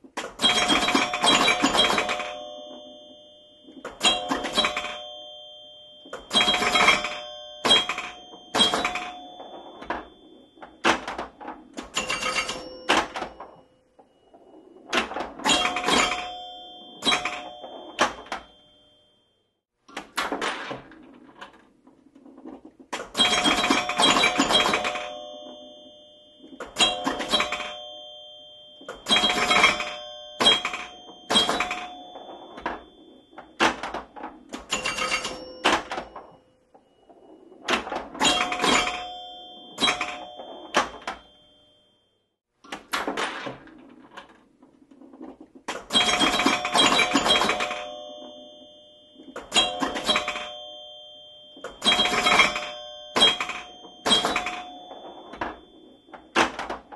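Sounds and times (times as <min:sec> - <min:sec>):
pinball mechanical knocks: 0:00.0 - 0:18.8, 0:19.9 - 0:36.4, 0:37.2 - 0:41.8, 0:42.7 - 0:56.9
pinball bell tones: 0:00.0 - 0:56.9.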